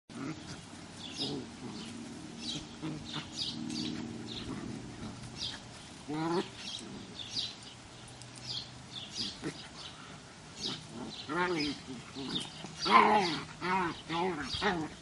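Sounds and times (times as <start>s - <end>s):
puppies grumbling: 0.1s - 7.6s, 9.1s - 15.0s
birds chirping: 0.1s - 15.0s.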